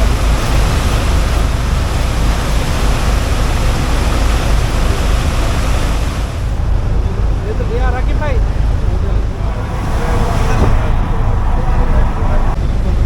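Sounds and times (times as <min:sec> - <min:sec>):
water rushing: 0:00.0 - 0:07.4, 0:08.0 - 0:13.0
boat engine rumble: 0:00.0 - 0:13.0
wind: 0:00.0 - 0:13.0.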